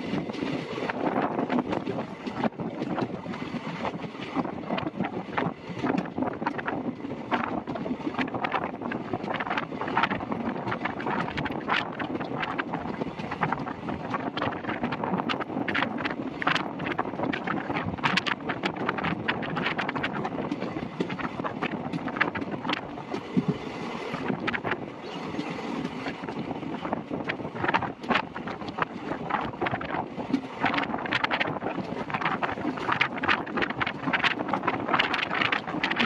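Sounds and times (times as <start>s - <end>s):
train wheels clattering on rails: 0.0s - 36.0s
wind buffeting microphone: 0.0s - 36.0s.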